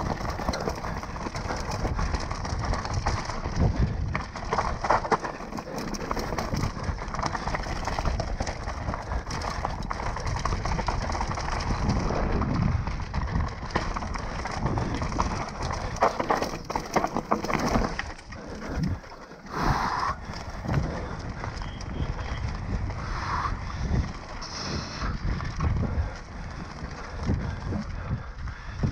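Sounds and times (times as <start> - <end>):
bike rattles and knocks: 0.0 - 28.9
bike tyres crunching over dirt: 0.0 - 28.9
wind buffeting microphone: 0.0 - 28.9.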